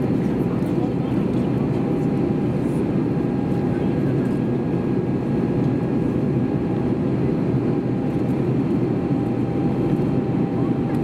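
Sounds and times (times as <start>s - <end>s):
airplane cabin engine rush: 0.0s - 11.0s.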